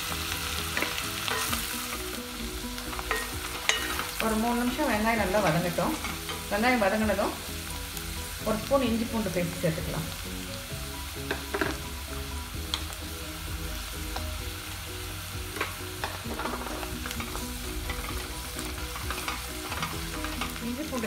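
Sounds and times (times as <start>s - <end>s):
shallots sizzling in oil: 0.0s - 21.0s.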